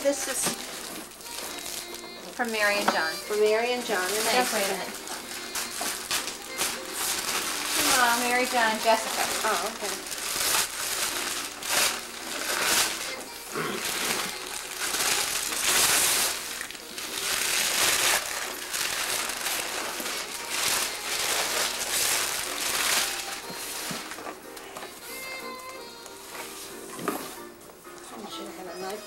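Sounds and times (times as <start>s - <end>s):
wrapping paper ripping and rustling: 0.0s - 29.0s.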